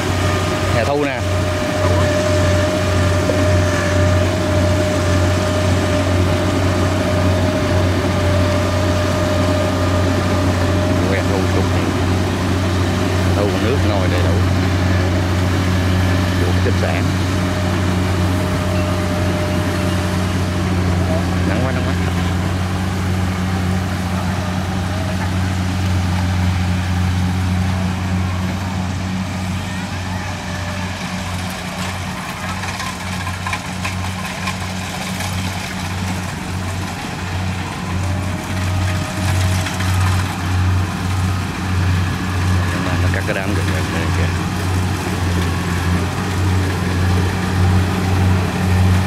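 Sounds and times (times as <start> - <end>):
diesel engine low drone: 0.0 - 49.0.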